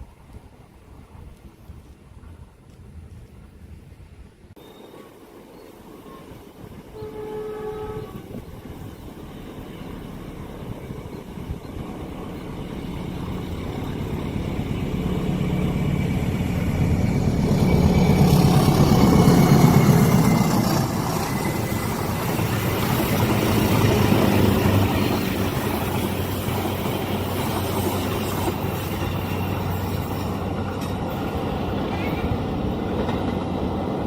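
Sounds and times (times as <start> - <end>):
train passing: 0.0 - 34.0.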